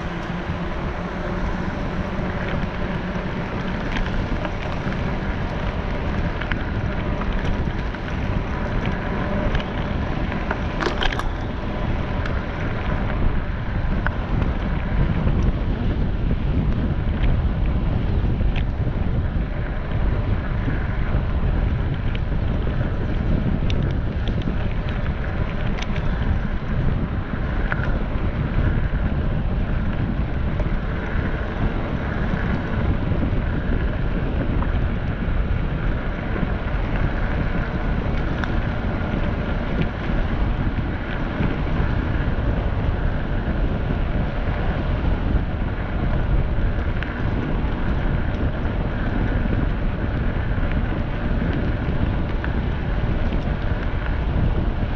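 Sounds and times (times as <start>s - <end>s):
low rumble: 0.0s - 54.9s
wind buffeting microphone: 0.0s - 54.9s.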